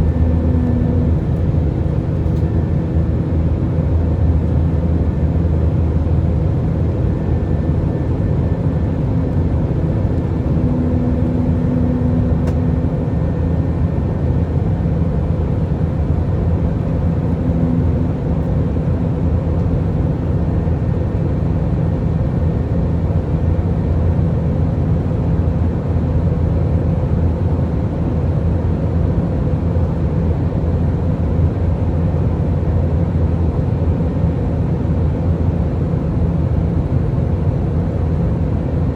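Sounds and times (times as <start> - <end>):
airliner cabin engine and airflow rush: 0.0 - 38.9
constant low hum: 0.0 - 38.9.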